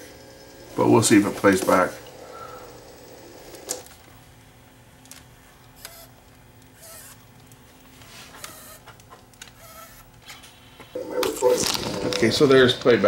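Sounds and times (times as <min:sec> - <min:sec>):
tape mechanism whirring: 0:00.0 - 0:04.2, 0:05.0 - 0:13.0.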